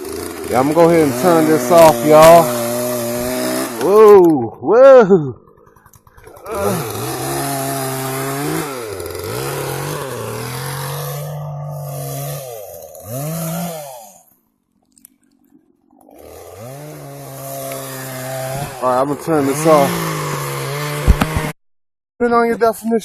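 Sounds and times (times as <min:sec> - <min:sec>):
chainsaw engine revving: 0:00.0 - 0:04.3, 0:05.4 - 0:14.3, 0:16.0 - 0:21.6.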